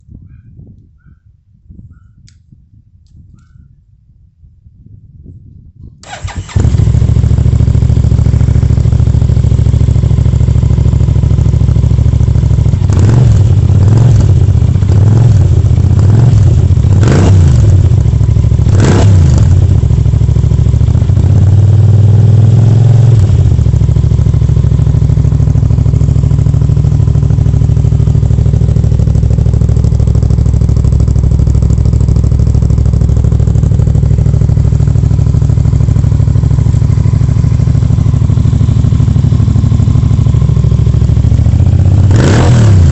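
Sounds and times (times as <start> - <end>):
motorcycle engine idling and revving: 5.8 - 42.9.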